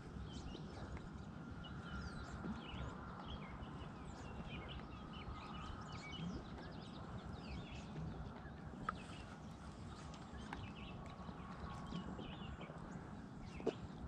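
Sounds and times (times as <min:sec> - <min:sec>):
low steady background rumble: 0:00.0 - 0:14.0
songbirds chirping and singing: 0:00.0 - 0:14.0.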